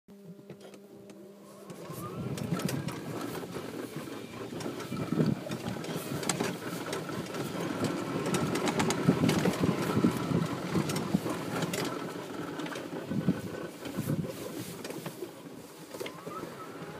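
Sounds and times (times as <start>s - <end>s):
golf cart driving over grass: 0.6s - 16.9s
cart body rattling: 1.7s - 16.9s.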